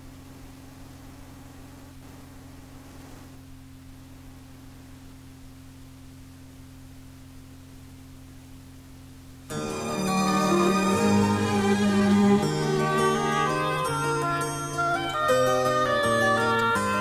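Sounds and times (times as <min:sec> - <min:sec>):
electrical hum: 0:00.0 - 0:17.0
faint tape hiss: 0:00.0 - 0:17.0.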